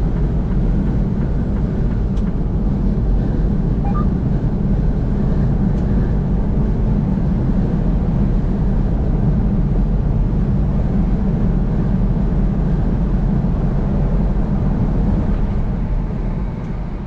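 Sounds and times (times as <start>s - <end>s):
vehicle driving on highway: 0.0s - 17.0s.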